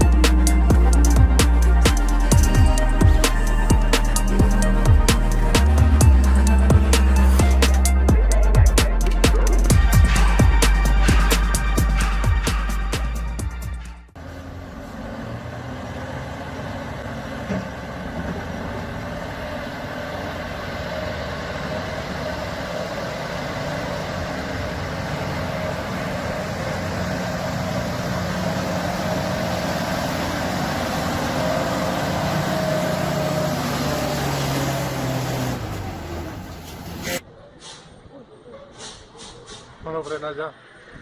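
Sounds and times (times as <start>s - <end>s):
heavy vehicle engine running: 0.0s - 37.2s.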